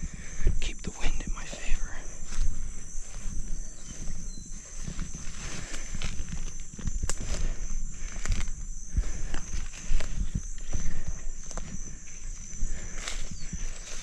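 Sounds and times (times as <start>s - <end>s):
footsteps through tall grass: 0.0s - 14.0s.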